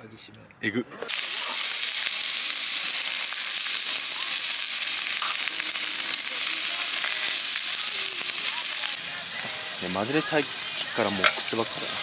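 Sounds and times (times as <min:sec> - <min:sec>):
meat sizzling in a frying pan: 0:01.1 - 0:12.0.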